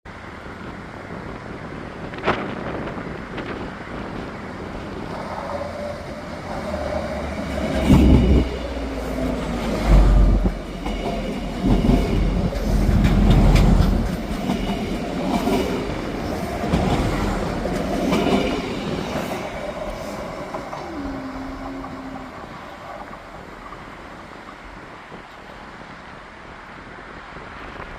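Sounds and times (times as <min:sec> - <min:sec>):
train engine rumbling: 0:00.1 - 0:27.9
wheels clacking over rail joints: 0:02.2 - 0:25.5.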